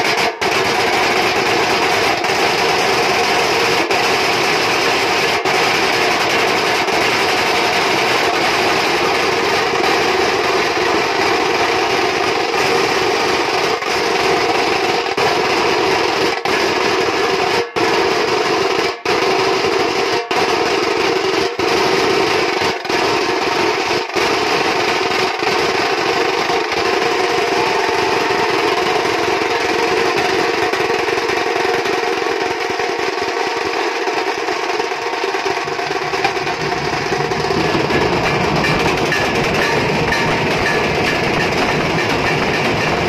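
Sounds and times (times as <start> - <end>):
drum ensemble beating: 0.0 - 19.0, 19.7 - 43.0.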